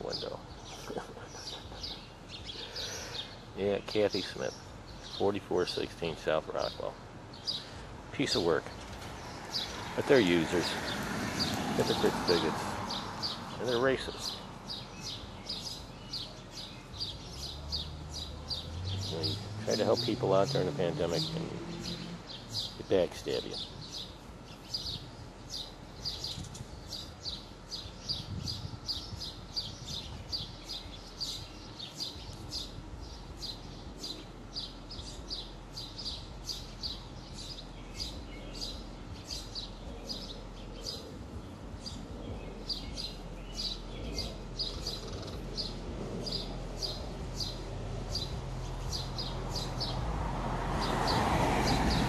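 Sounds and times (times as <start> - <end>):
small songbird chirping: 0.0 - 50.2.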